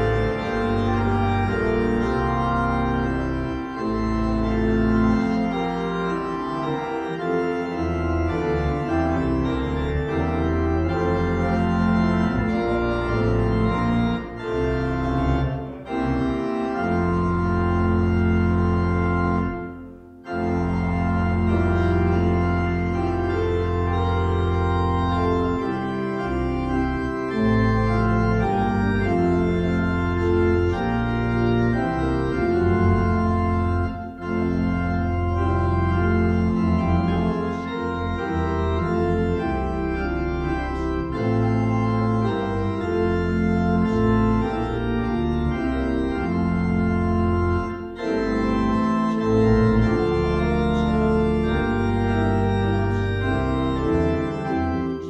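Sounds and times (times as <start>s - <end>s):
organ playing a hymn: 0.0s - 55.0s.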